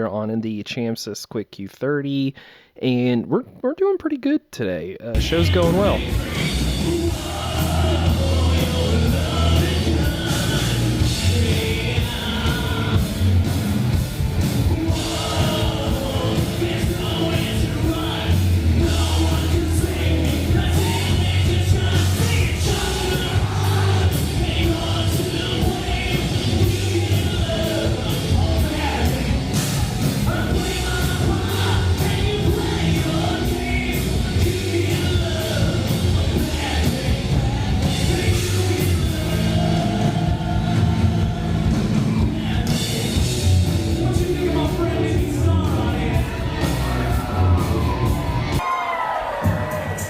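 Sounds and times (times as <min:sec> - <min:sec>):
person singing lead vocal: 0:04.7 - 0:13.4, 0:14.4 - 0:48.6
drums beating: 0:05.0 - 0:48.6
live rock band playing: 0:05.2 - 0:48.6.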